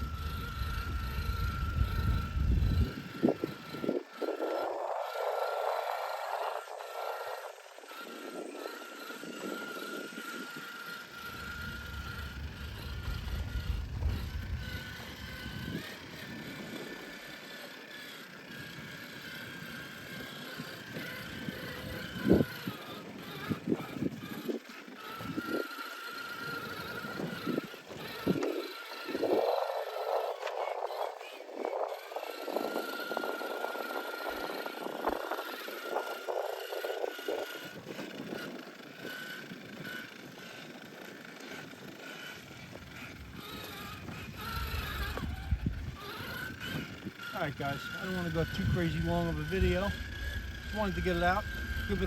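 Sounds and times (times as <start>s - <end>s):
toy car electric motor whining: 0.0s - 52.0s.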